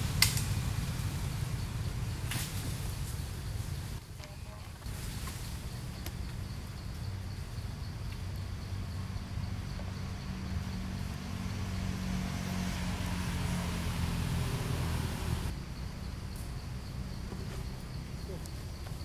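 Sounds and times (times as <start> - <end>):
low steady rumble: 0.0 - 18.3.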